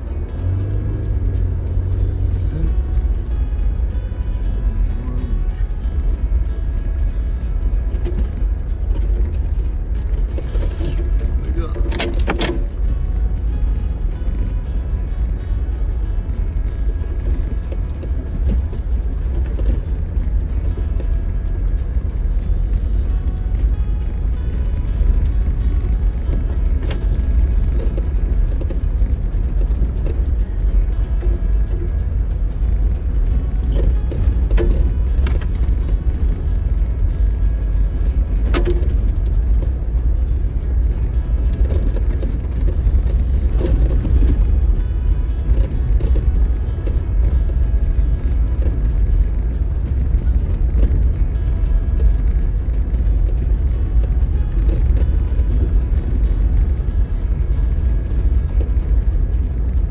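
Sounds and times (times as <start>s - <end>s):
engine and tyres rumbling: 0.0s - 59.9s
knocks and rattles over bumps: 0.0s - 59.9s.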